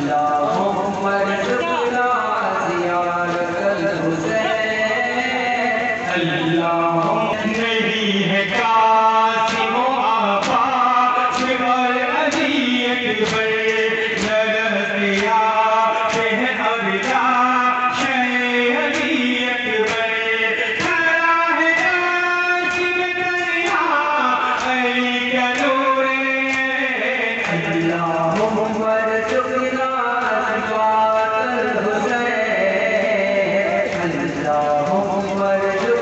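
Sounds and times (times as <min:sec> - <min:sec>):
men chanting a lament: 0:00.0 - 0:36.0.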